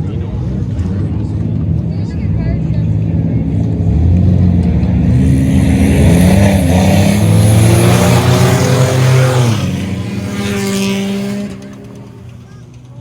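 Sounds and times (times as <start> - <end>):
race cars passing by: 0.0 - 13.0.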